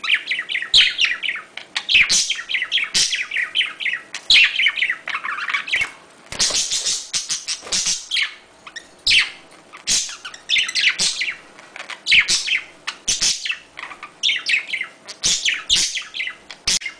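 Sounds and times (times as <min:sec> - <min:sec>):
budgerigars chirping: 0:00.0 - 0:16.9.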